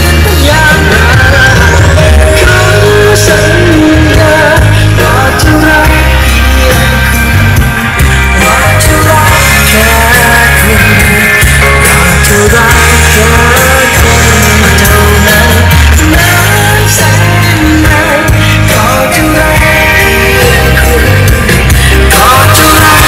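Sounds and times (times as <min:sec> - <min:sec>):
song with heavy bass over speakers: 0:00.0 - 0:23.0.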